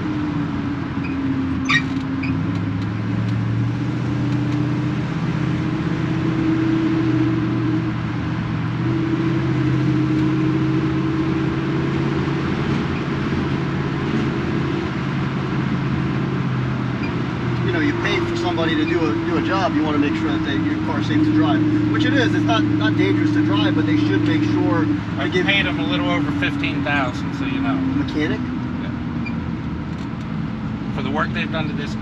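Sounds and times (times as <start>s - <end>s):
car engine running: 0.0s - 32.0s
road noise: 0.0s - 32.0s.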